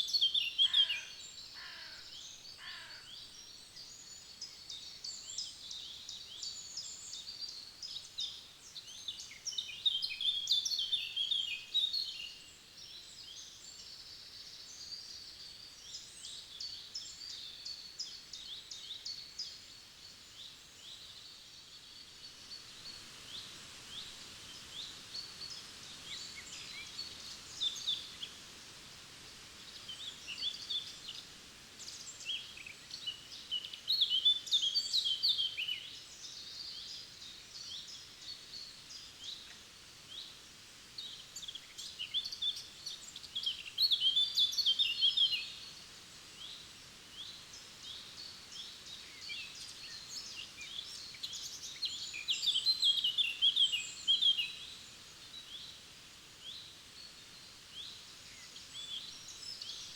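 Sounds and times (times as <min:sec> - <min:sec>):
faint hiss of flowing water: 0:00.0 - 0:59.9
songbirds singing and chirping: 0:00.0 - 0:59.9.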